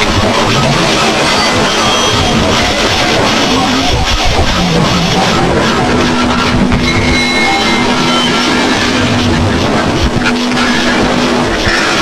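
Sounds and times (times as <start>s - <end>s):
low held tone: 0.0s - 11.9s
harsh distorted noise music: 0.0s - 12.0s.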